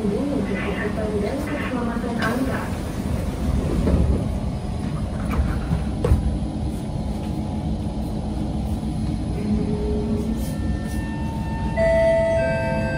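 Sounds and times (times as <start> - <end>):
train rumble and hum: 0.0 - 12.9
train sliding doors shutting: 2.0 - 12.9.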